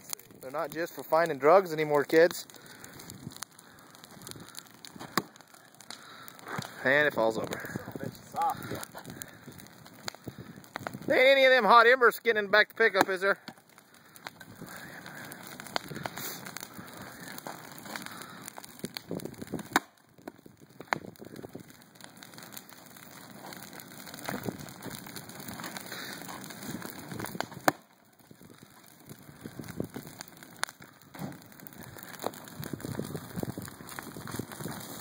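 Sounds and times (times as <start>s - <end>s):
bonfire crackling and popping: 0.0s - 35.0s.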